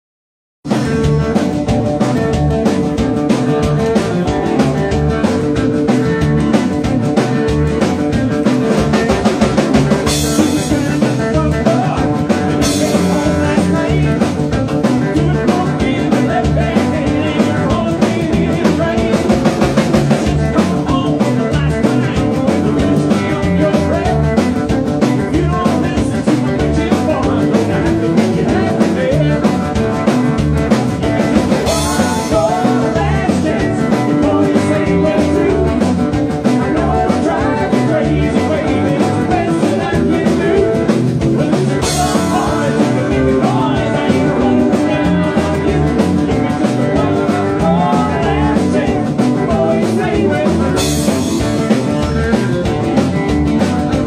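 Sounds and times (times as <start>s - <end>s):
drum kit beat: 0.6s - 54.0s
electric guitar: 0.6s - 54.0s
upright double bass: 0.6s - 54.0s.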